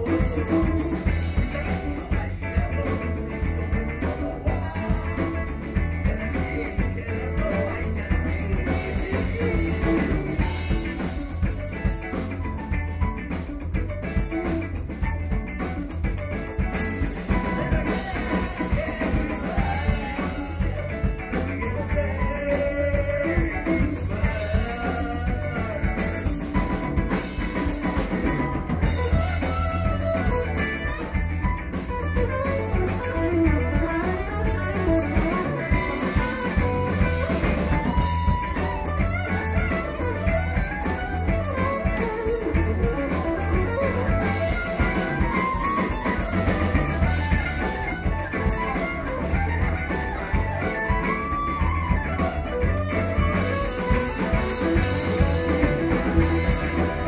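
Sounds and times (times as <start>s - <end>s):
rock music with guitar and drums: 0.0s - 57.0s.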